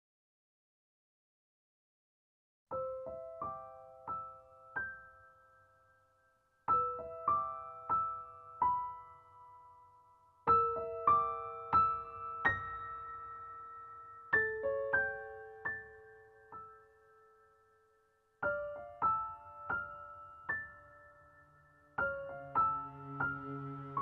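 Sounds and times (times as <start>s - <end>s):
slow solo piano: 2.7s - 24.0s.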